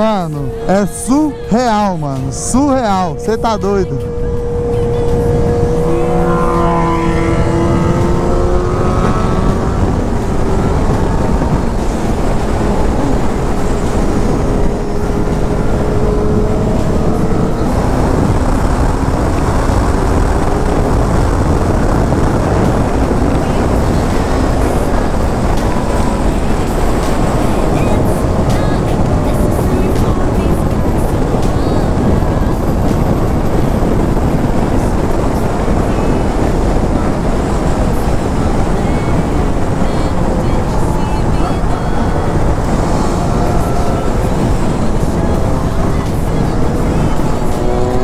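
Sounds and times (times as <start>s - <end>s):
motorcycle engine at speed: 0.0s - 48.0s
wind rush on microphone: 0.0s - 48.0s.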